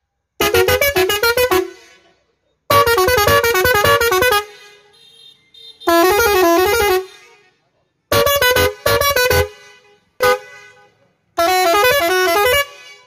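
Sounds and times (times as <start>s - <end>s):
musical air horn tune: 0.4s - 7.5s, 8.1s - 13.0s.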